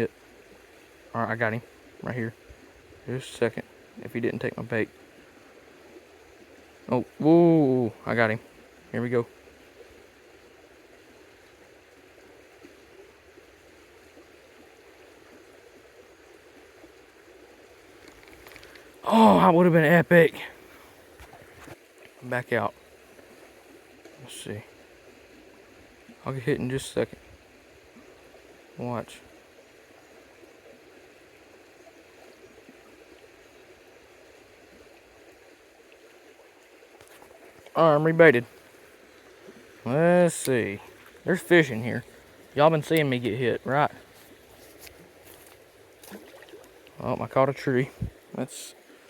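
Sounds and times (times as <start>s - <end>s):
creek water running: 0.0s - 49.0s.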